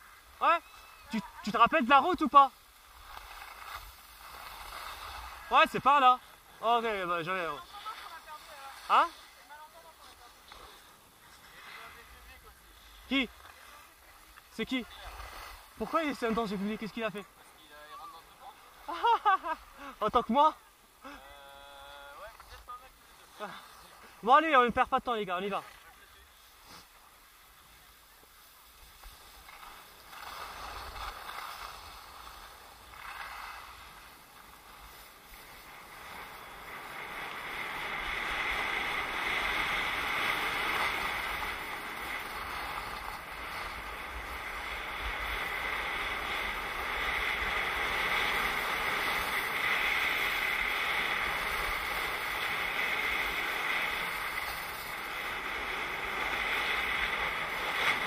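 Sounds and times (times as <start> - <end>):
skis scraping over snow: 0.0 - 58.0.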